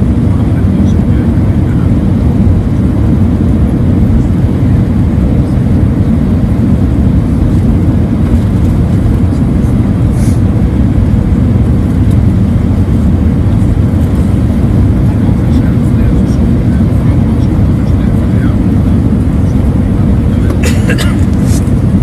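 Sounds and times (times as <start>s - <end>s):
jet engine and airflow rumble: 0.0s - 22.0s.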